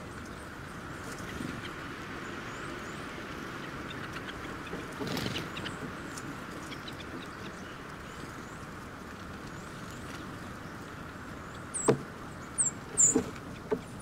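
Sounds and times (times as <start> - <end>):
high songbird calls: 0.0 - 8.8, 9.5 - 14.0.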